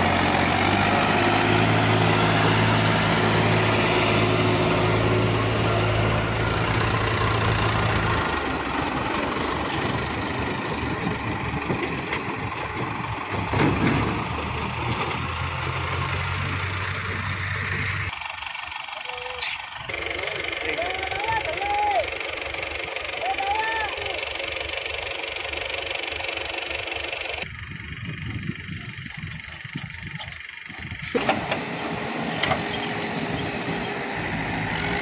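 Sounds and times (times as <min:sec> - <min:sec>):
diesel tractor engines under load: 0:00.0 - 0:35.0.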